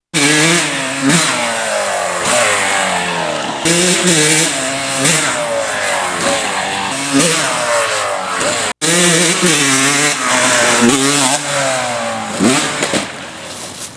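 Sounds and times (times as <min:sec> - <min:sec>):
dirt bike engine revving: 0:00.1 - 0:13.3.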